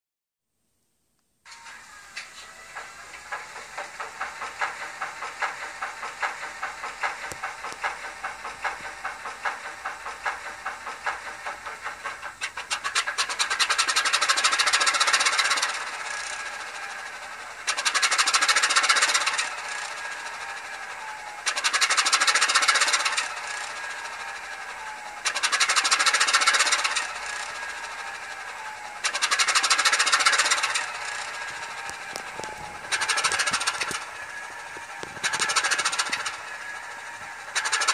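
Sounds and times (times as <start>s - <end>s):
model train diesel engine sound: 1.5s - 37.9s.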